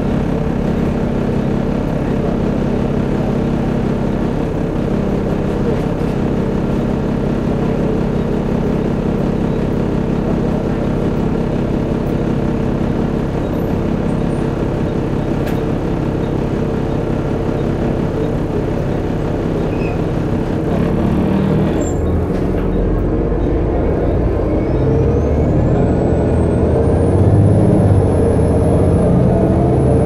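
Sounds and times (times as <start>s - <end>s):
bus diesel engine drone: 0.0s - 30.0s.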